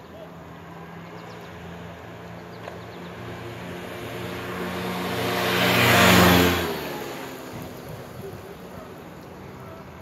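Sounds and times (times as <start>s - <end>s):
moped engines racing: 0.0s - 10.0s.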